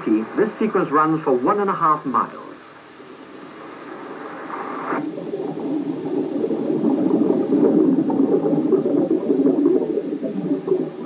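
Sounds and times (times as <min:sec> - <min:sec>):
underwater bubbling and gurgling: 0:00.0 - 0:11.0.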